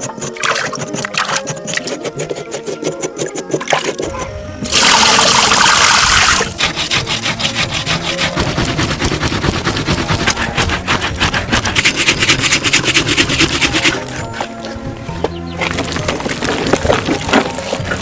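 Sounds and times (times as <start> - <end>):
rhythmic rasping strokes: 0.0 - 18.0.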